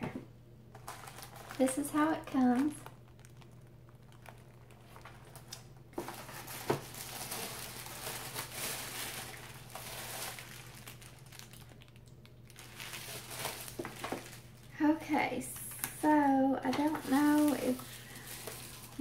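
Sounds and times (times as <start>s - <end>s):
packaging crinkling and rustling: 0.7s - 19.0s.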